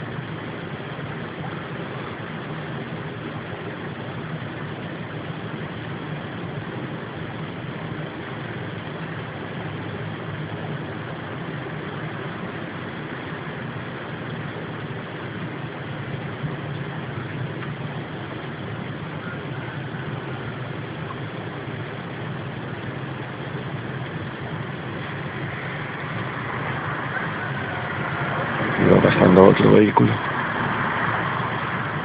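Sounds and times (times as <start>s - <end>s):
steady low drone: 0.0s - 32.0s.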